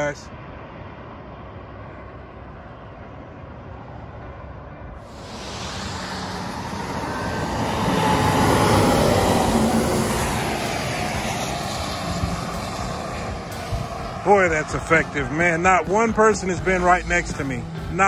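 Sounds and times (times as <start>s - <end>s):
semi truck passing: 0.0s - 18.0s.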